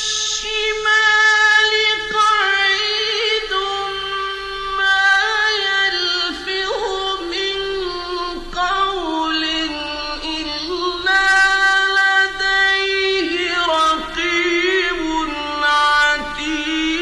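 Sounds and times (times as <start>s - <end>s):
person chanting melodically: 0.0s - 17.0s.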